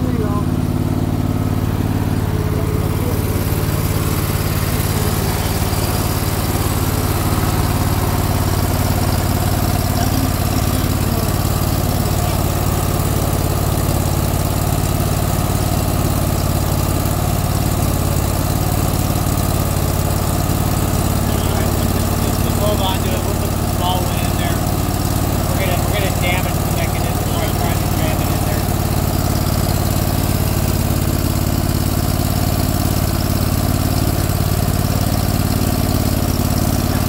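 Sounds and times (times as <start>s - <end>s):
mower engine idling: 0.0s - 37.0s.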